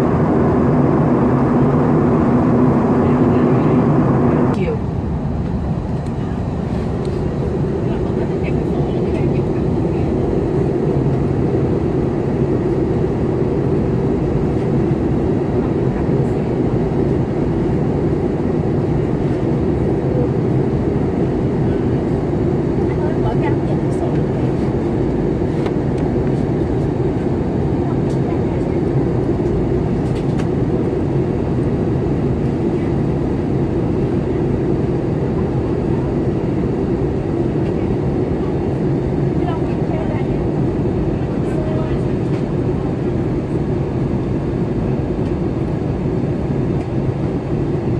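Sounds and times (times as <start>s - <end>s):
airliner cabin engine noise: 0.0s - 47.9s.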